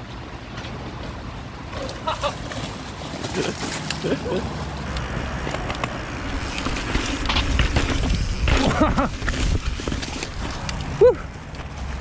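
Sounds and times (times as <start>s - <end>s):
bike knocking and rattling: 0.0s - 12.0s
bike tyres scrabbling over rock: 1.7s - 4.7s, 5.3s - 12.0s.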